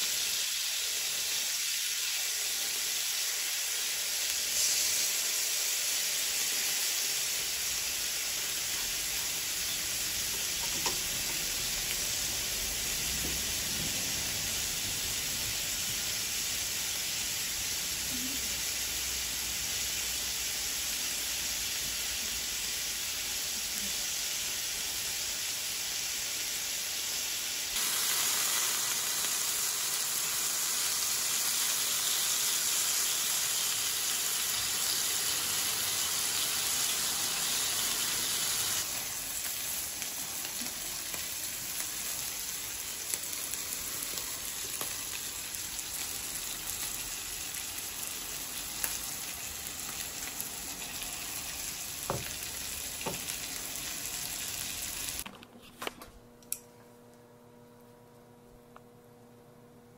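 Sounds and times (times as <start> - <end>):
meat sizzling on a grill plate: 0.0 - 55.2.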